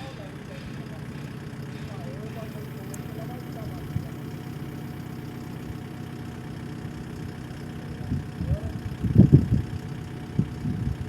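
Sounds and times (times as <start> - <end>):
excavator diesel engine idling: 0.0 - 11.0.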